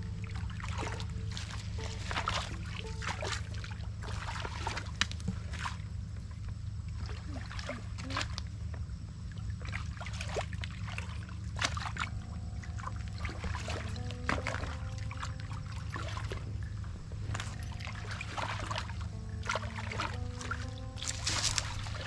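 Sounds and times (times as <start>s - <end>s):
steady low rumble: 0.0s - 22.0s
wading through water splashing: 0.0s - 22.0s.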